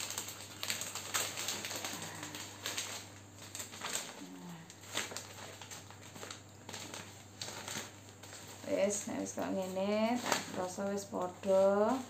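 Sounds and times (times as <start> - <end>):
wrapping paper rustling and crinkling: 0.0 - 12.0.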